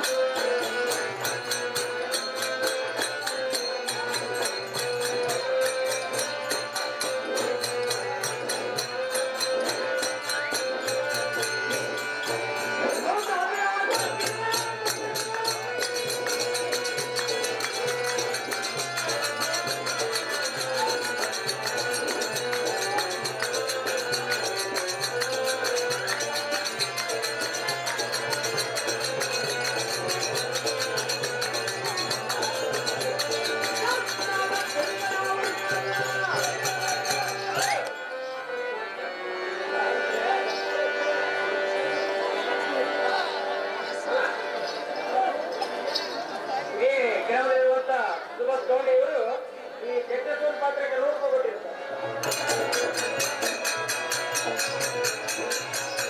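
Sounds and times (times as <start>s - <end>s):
folk theatre music with fast beat: 0.0s - 56.0s.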